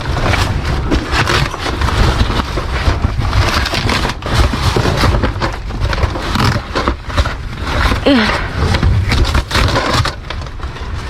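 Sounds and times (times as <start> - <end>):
trash bags rustling and crackling: 0.0 - 11.0.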